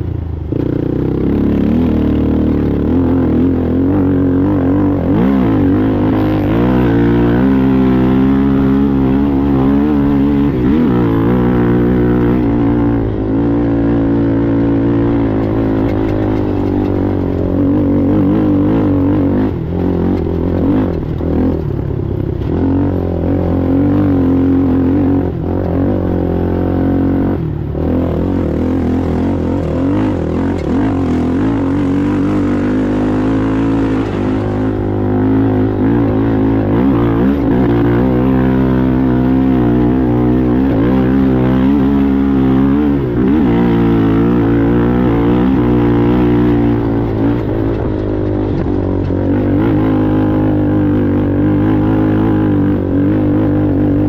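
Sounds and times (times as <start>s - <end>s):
atv engine racing: 0.0s - 54.0s.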